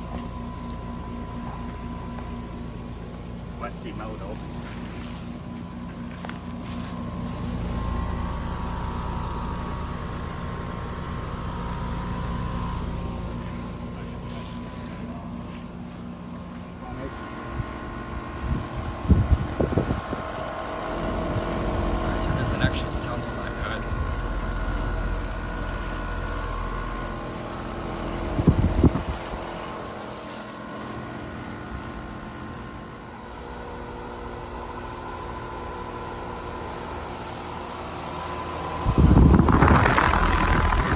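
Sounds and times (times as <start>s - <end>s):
compressor hum: 0.0s - 40.9s
condenser fan rushing: 0.0s - 40.9s.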